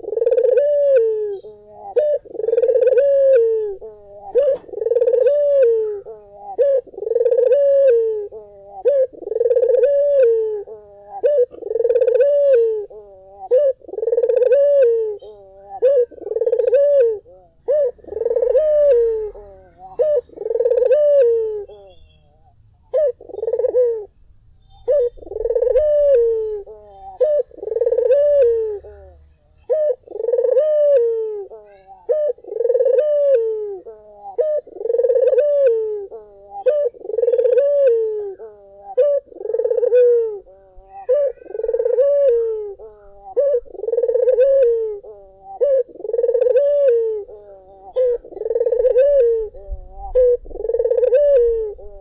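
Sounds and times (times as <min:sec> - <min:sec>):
dove cooing: 0:00.0 - 0:52.0.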